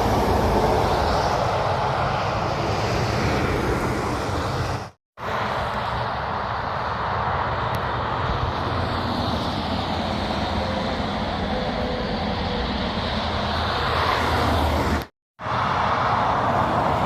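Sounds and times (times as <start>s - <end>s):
road and tyre noise: 0.0s - 17.0s
truck diesel engines rumbling: 0.0s - 17.0s.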